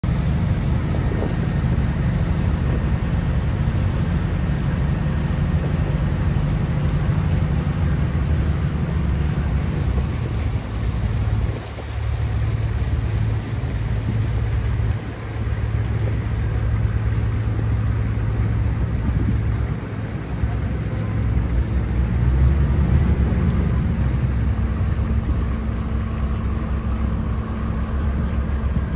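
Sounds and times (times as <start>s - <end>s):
ferry engines droning: 0.0s - 28.9s
wind buffeting microphone: 0.0s - 28.9s.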